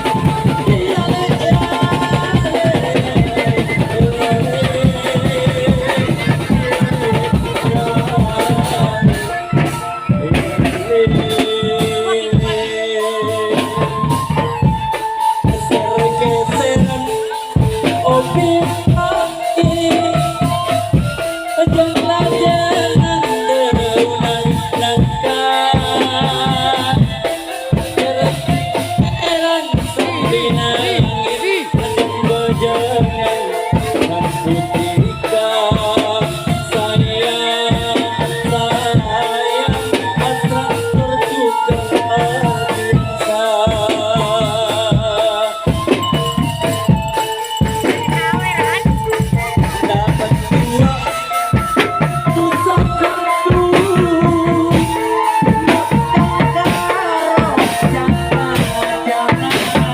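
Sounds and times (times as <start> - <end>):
steady drumming: 0.0 - 59.9
wavering melody line: 0.0 - 59.9.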